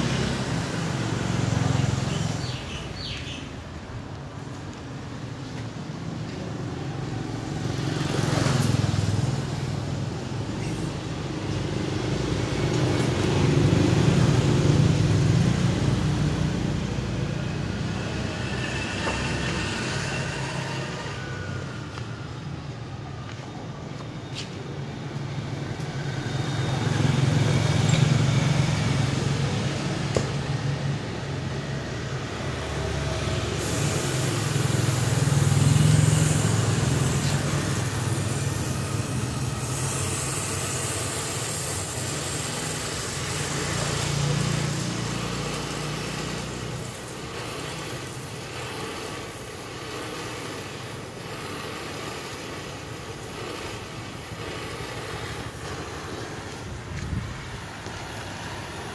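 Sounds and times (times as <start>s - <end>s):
motor vehicle engine and road noise: 0.0s - 58.9s.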